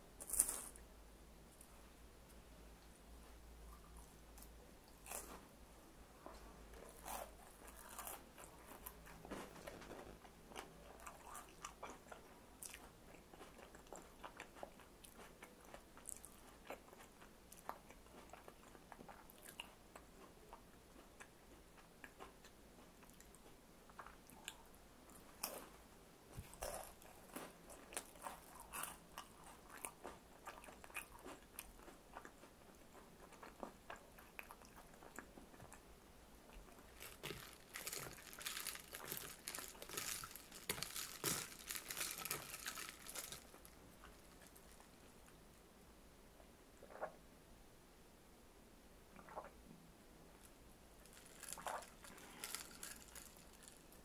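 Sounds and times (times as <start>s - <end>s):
chewing and crunching crisp food: 3.7s - 5.5s, 6.3s - 25.8s, 26.4s - 45.4s, 50.4s - 54.0s.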